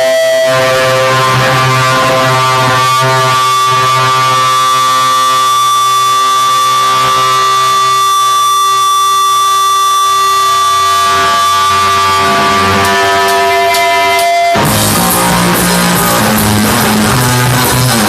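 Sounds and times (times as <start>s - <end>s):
rock band playing loudly: 0.0s - 9.2s, 9.8s - 18.0s
sustained guitar tones: 0.0s - 18.0s.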